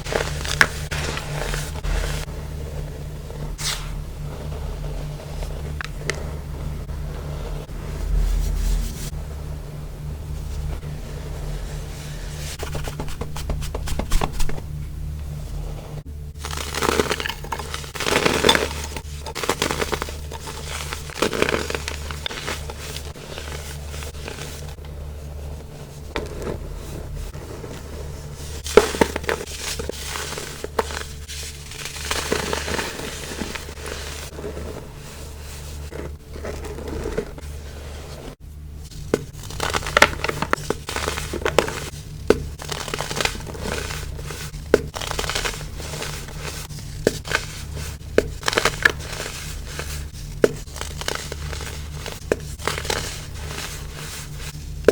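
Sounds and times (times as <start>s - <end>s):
baking soda crunching: 0.0s - 8.5s, 16.4s - 54.9s
low hum: 0.0s - 54.9s.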